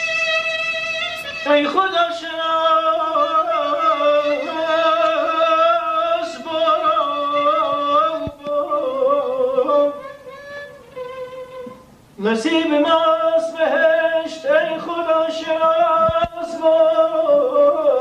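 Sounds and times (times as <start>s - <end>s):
man singing ornamented classical song: 0.0s - 18.0s.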